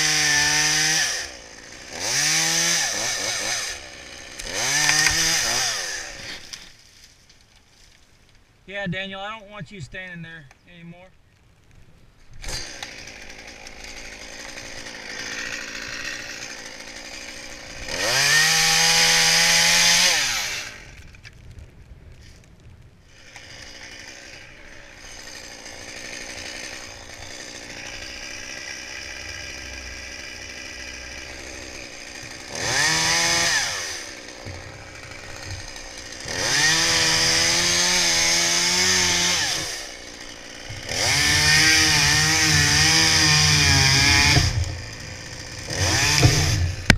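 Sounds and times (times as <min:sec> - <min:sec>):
chainsaw idling and revving: 0:00.0 - 0:06.8, 0:12.4 - 0:21.1, 0:23.1 - 0:46.9.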